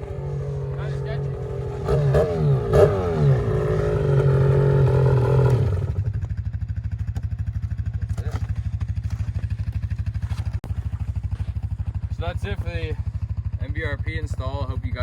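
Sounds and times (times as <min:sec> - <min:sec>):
snowmobile engine revving and idling: 0:00.0 - 0:15.0.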